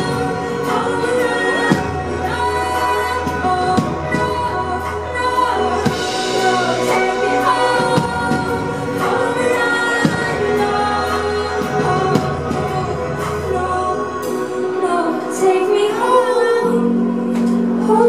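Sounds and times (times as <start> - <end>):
low bass: 0.0 - 18.0
pop band playing: 0.0 - 18.0
woman singing into microphone: 0.0 - 18.0.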